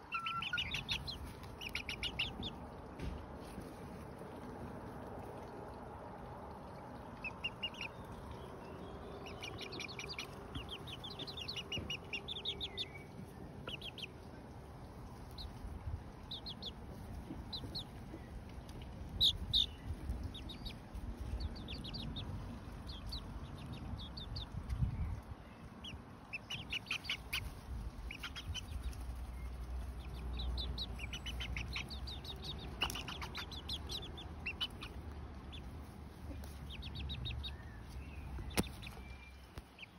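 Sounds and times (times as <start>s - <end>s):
chicks cheeping: 0.0s - 2.7s, 7.1s - 14.3s, 15.2s - 39.9s.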